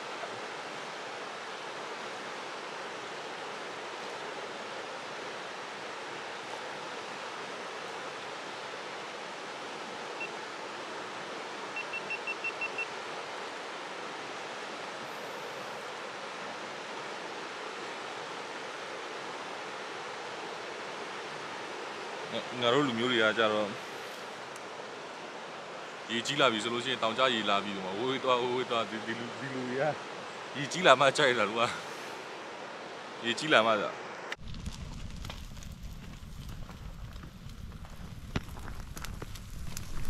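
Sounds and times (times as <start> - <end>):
river water rushing: 0.0 - 34.4.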